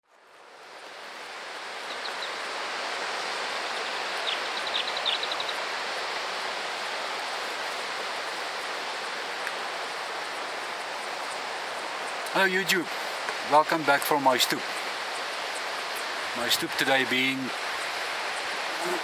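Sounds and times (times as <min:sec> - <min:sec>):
waterfall rushing: 0:00.6 - 0:19.0.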